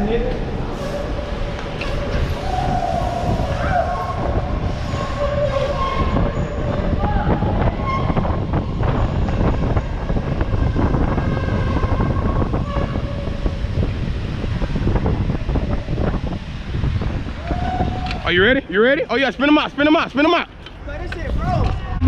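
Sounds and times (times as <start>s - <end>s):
wheels squealing: 0.0s - 21.1s
train rumbling on rails: 0.0s - 22.0s.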